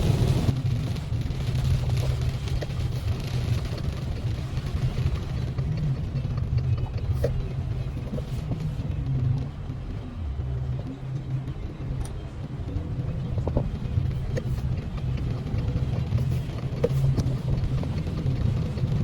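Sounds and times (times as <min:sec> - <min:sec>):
car road rumble: 0:00.0 - 0:19.0.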